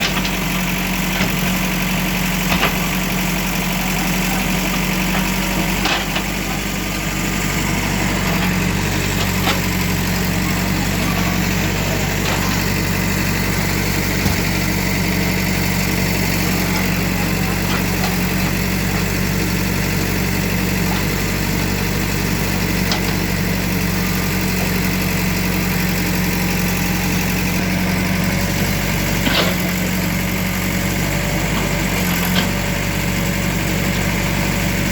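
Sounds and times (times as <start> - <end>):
demolition machine engine running: 0.0 - 34.9.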